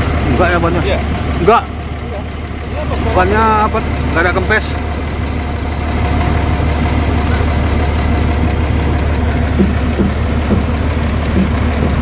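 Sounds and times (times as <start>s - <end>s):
diesel bus engine idling: 0.0s - 12.0s.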